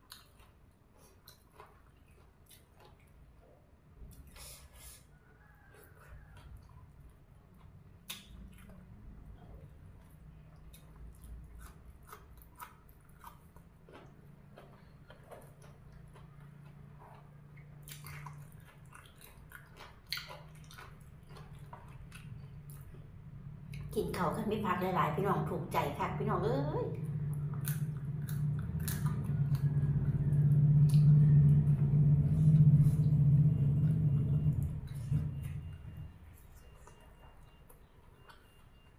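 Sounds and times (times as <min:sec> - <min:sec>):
person chewing crunchy food: 0:00.0 - 0:24.0, 0:26.9 - 0:38.9
low steady hum: 0:00.0 - 0:38.9.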